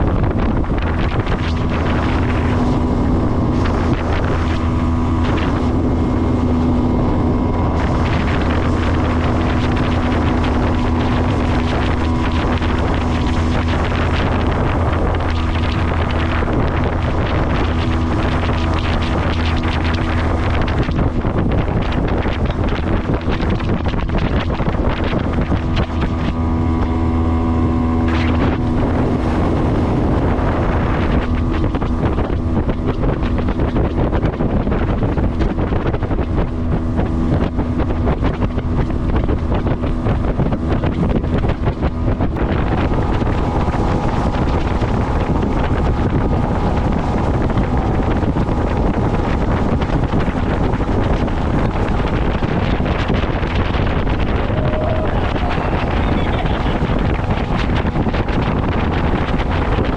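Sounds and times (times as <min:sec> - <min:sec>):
motorboat engine running: 0:00.0 - 0:59.9
wind noise on microphone: 0:00.0 - 0:59.9.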